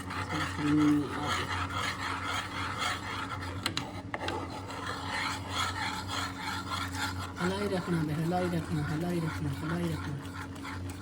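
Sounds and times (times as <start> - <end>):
spoon scraping a pan: 0.0 - 11.0.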